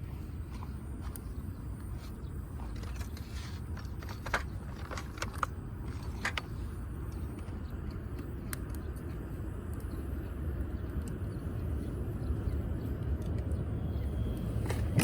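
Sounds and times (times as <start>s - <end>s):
fire low rumble: 0.0s - 15.0s.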